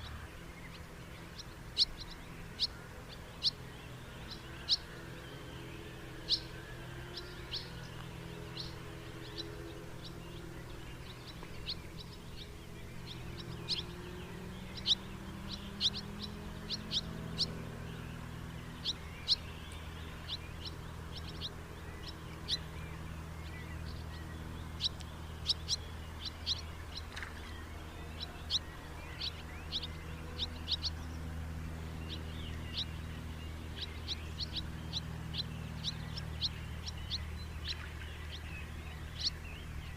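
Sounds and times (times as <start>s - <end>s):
birds chirping: 0.0s - 39.9s
low background hum: 0.0s - 39.9s.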